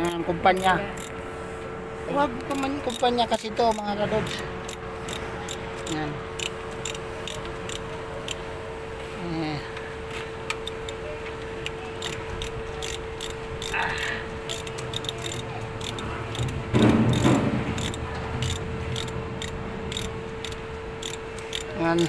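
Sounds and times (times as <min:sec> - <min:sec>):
ratchet wrench clicking: 0:00.0 - 0:01.1, 0:02.5 - 0:08.4, 0:10.5 - 0:11.0, 0:11.6 - 0:22.0
steady hum: 0:00.0 - 0:22.0.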